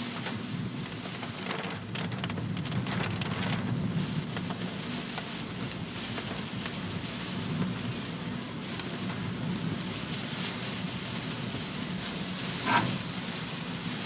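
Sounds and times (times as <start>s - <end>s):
heavy rain pouring: 0.0s - 14.0s
raindrops hitting a surface: 0.0s - 14.0s.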